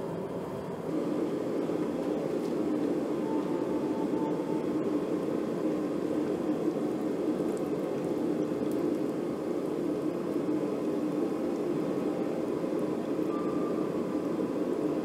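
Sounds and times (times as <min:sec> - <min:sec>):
oil bubbling hiss: 0:00.0 - 0:15.0.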